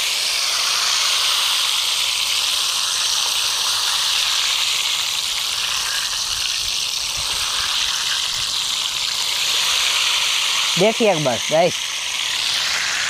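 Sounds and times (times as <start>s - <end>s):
hot oil sizzling: 0.0s - 13.0s
water boiling off into oil: 0.0s - 13.0s.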